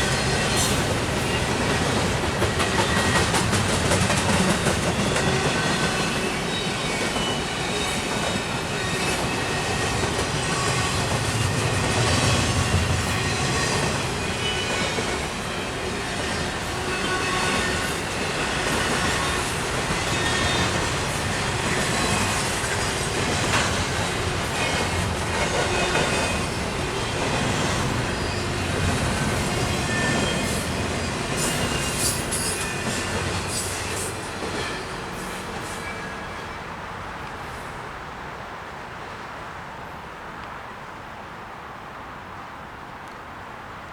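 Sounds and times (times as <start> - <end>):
wheels clacking over rail joints: 0.0 - 36.5
freight train rumble: 0.0 - 38.3.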